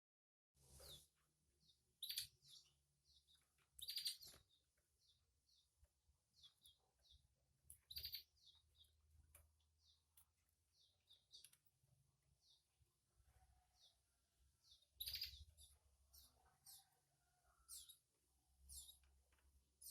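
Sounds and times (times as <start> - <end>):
canaries chirping: 0.7 - 14.0, 14.6 - 19.9.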